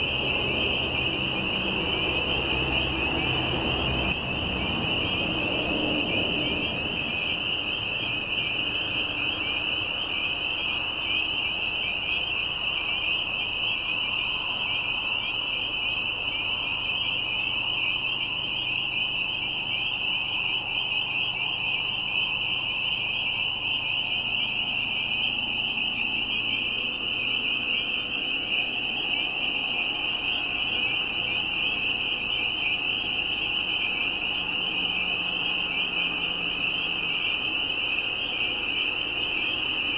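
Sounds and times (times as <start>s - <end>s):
spring peepers chorus: 0.0s - 39.9s.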